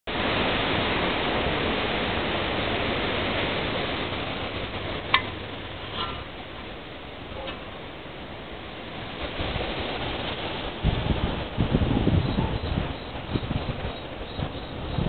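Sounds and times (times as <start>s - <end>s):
steady rain falling: 0.1s - 15.0s.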